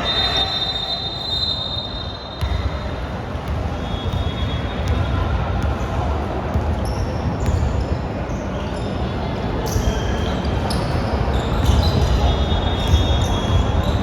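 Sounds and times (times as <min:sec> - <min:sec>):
sneaker squeaks: 0:00.0 - 0:05.2, 0:06.5 - 0:14.0.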